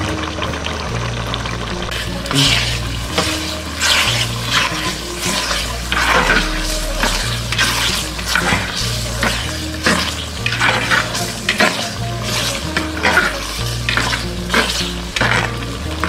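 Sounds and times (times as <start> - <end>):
food sizzling: 0.0 - 16.0
metal ladle scraping a pot: 1.9 - 16.0.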